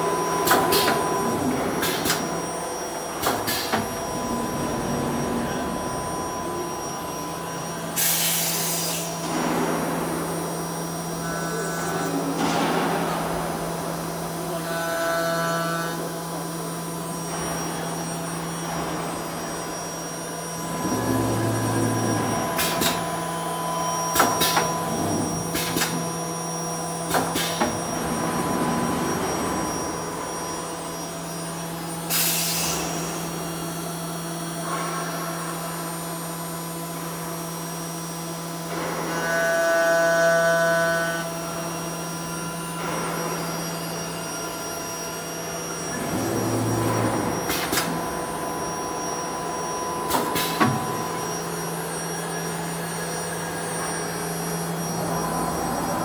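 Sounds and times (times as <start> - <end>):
milling machine motor hum: 0.0 - 56.0.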